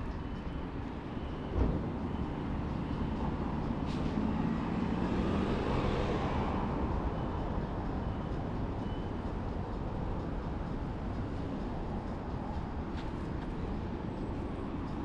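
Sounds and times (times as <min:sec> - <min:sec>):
din of traffic: 0:00.0 - 0:15.0.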